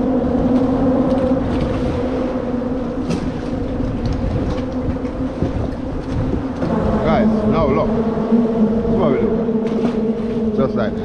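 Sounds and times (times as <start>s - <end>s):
traffic rumbling over bridge: 0.0s - 11.0s
two-note hum: 0.0s - 11.0s.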